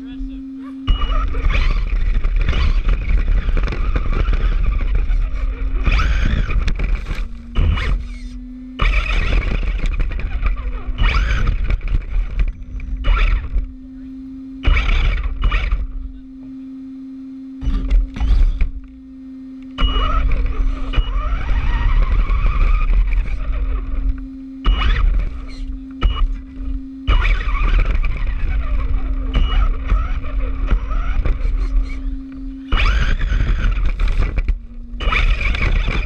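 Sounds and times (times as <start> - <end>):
rc car driving: 0.0 - 16.2, 17.6 - 19.0, 19.6 - 36.0
steady low hum: 0.0 - 36.0
tyres and drivetrain rush: 0.0 - 36.0.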